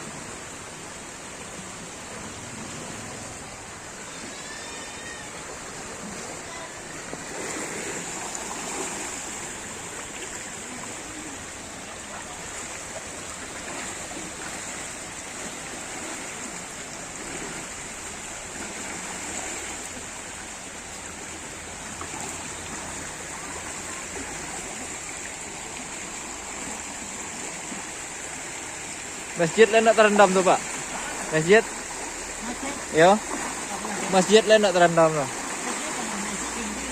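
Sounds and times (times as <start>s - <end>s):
floodwater rushing: 0.0s - 36.9s.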